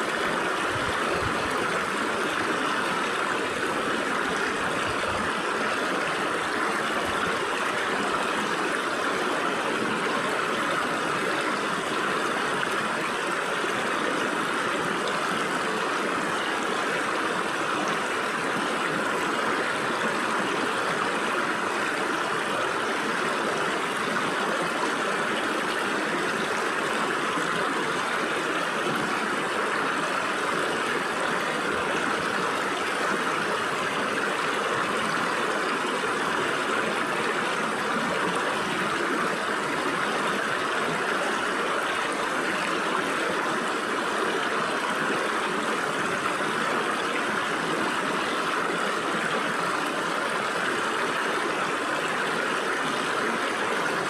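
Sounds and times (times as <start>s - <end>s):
stream rushing through rocks: 0.0s - 54.0s.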